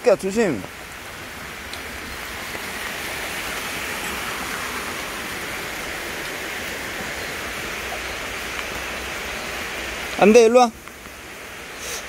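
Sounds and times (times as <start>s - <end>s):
heavy rain on water and rocks: 0.0s - 12.0s
stream rushing: 0.0s - 12.0s.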